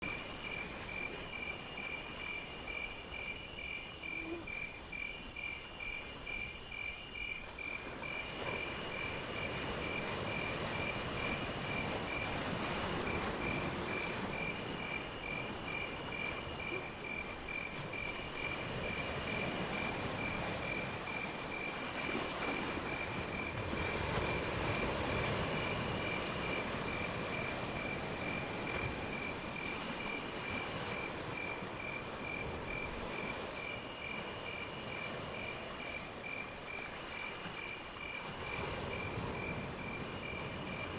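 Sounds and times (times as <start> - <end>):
cricket trilling: 0.0 - 40.9
shrill insect call: 0.0 - 40.9.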